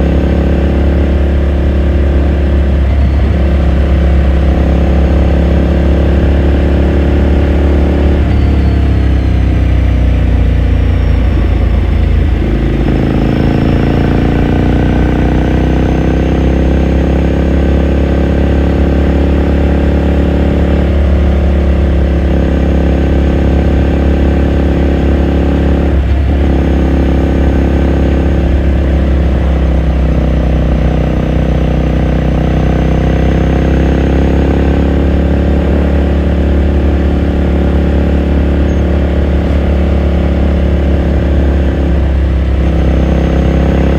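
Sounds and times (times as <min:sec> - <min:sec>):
motorcycle engine while riding: 0:00.0 - 0:43.9.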